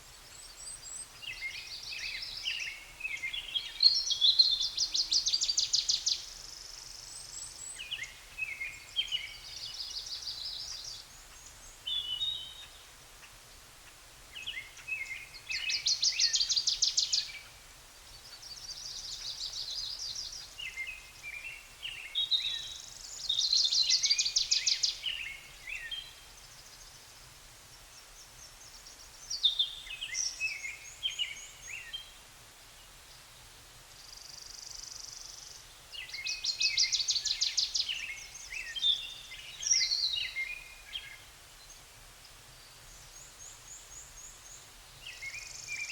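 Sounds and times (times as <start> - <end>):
faint background hiss: 0.0 - 45.9
songbirds trilling and twittering: 0.0 - 45.9.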